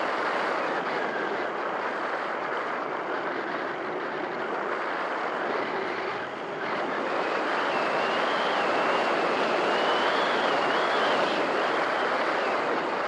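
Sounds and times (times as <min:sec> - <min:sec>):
wind noise from air rushing: 0:00.0 - 0:13.0.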